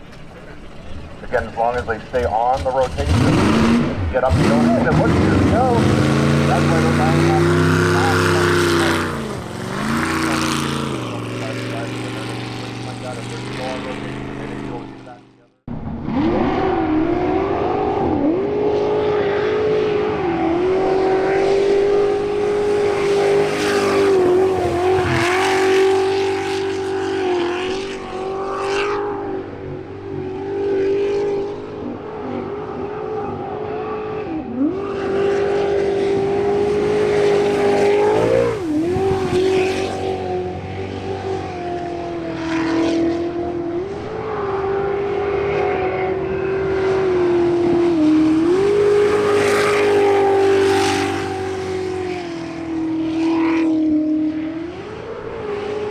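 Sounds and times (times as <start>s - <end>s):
jet boat engine at high revs: 0.0s - 15.6s, 16.4s - 55.9s.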